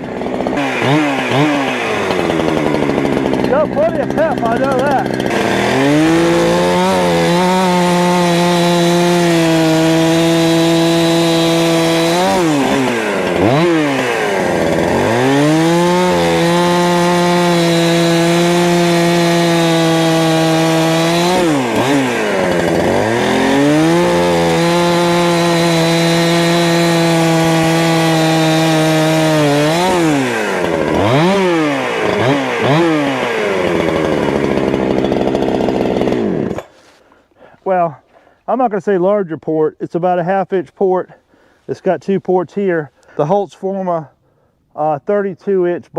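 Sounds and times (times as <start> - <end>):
chainsaw cutting wood: 0.0 - 38.6.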